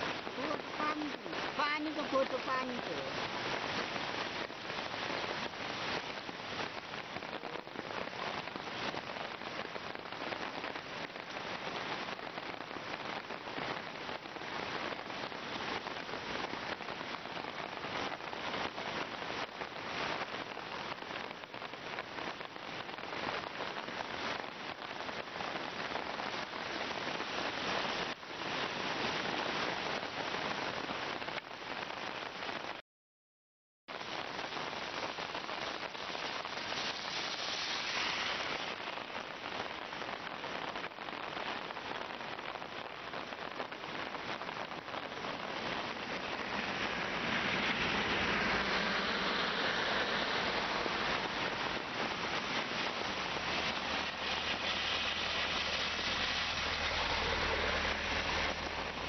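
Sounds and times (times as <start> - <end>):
flooded stream rushing: 0.0 - 32.7, 33.9 - 59.0
rain pattering on the ground: 0.0 - 32.8, 33.9 - 59.0.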